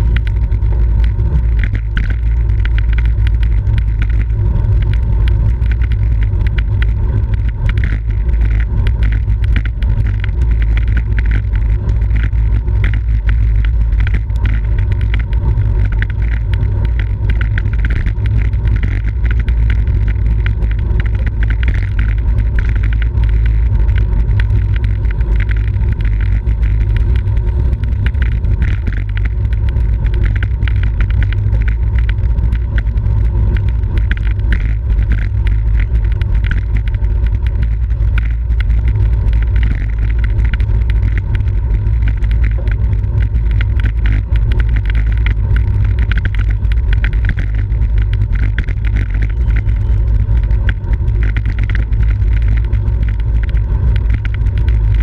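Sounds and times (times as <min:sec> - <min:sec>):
small clicks from bicycle: 0:00.0 - 0:55.0
tyre and road noise: 0:00.0 - 0:55.0
wind rushing over microphone: 0:00.0 - 0:55.0.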